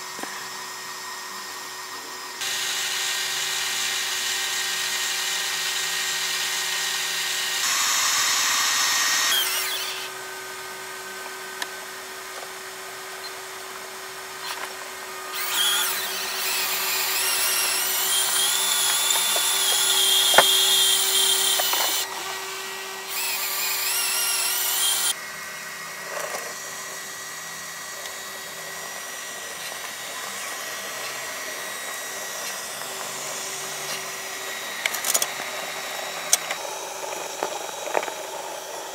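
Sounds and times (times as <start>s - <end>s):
electric winch motor whining: 0.0s - 38.9s.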